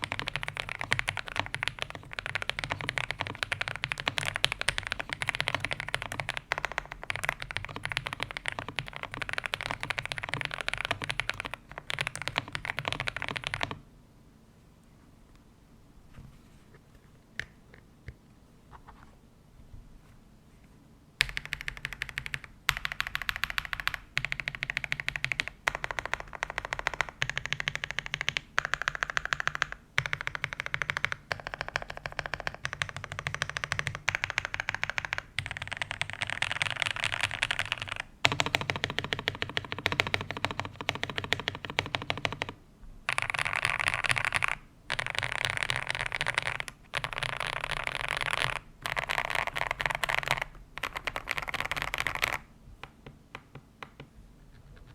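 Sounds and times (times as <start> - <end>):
mechanical keyboard typing: 0.0 - 13.8, 21.2 - 54.9.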